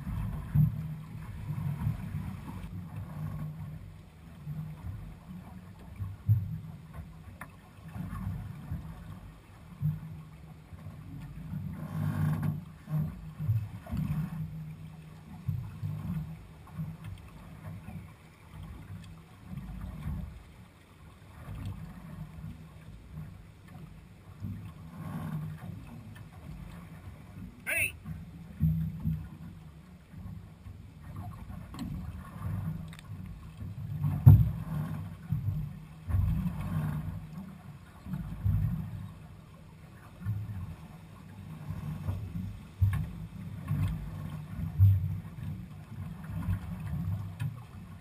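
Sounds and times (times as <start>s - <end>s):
choppy water against hull: 0.0s - 48.0s
wind: 0.0s - 48.0s.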